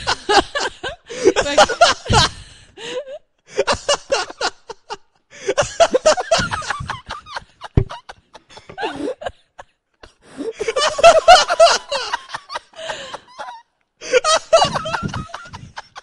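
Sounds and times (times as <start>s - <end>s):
people laughing: 0.0s - 16.0s.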